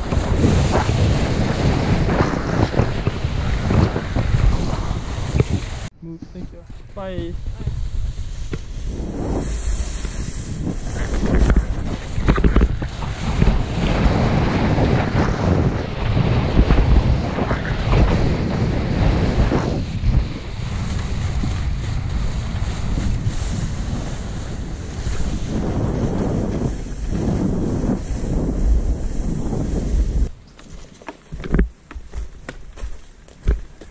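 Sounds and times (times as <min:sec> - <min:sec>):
skis scraping snow: 0:00.0 - 0:05.9, 0:06.5 - 0:33.9
wind buffeting microphone: 0:00.0 - 0:30.6.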